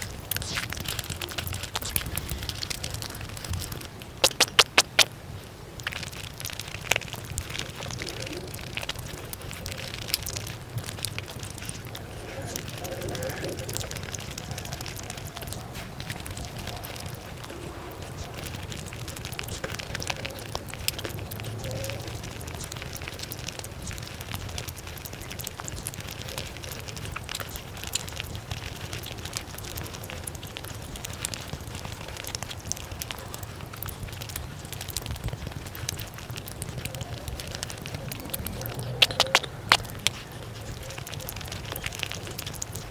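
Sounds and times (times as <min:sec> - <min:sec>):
sped-up chewing clicks and crackles: 0:00.0 - 0:42.9.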